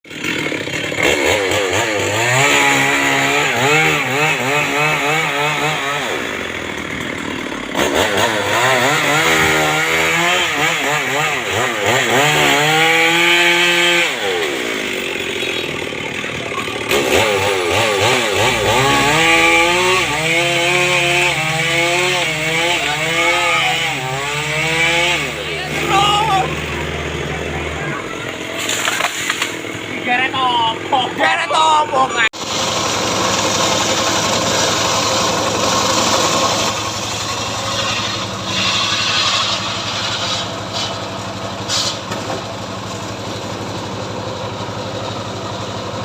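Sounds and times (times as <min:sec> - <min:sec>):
chainsaw cutting into tree: 0:00.1 - 0:46.0.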